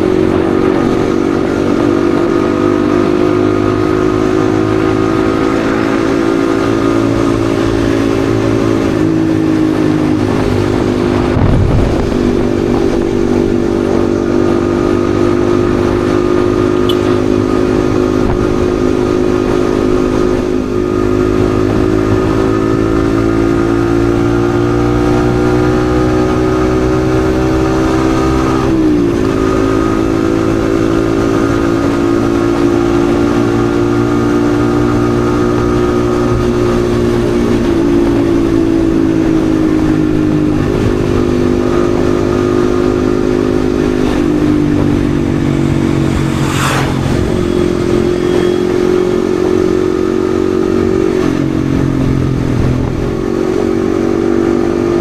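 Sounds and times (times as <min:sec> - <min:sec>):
motorcycle engine cruising: 0:00.0 - 0:55.0
wind noise: 0:00.0 - 0:55.0.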